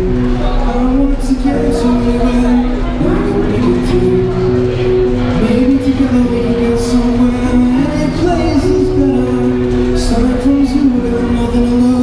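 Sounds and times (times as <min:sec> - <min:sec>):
acoustic guitar strumming: 0:00.0 - 0:12.0
man singing into microphone: 0:00.0 - 0:12.0.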